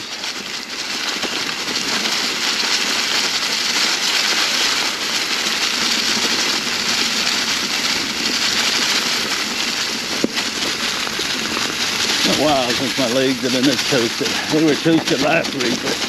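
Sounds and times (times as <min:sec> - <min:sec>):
bike tyres rolling through dry leaves: 0:00.0 - 0:16.0.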